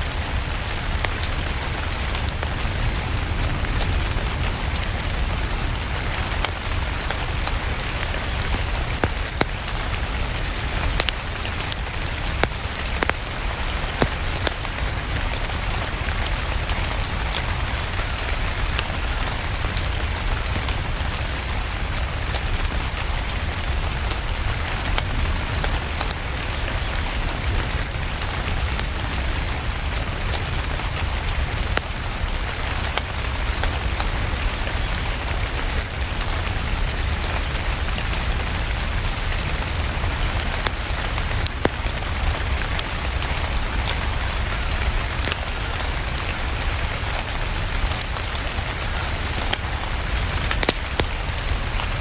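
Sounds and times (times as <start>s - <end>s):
steady rain: 0.0s - 52.0s
wood fire crackling and popping: 0.1s - 52.0s.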